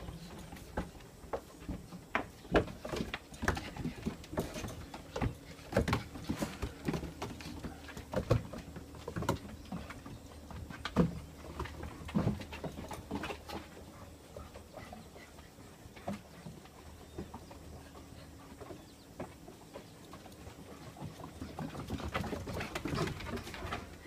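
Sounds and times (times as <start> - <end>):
dog paws scrabbling on wooden deck: 0.0 - 24.0.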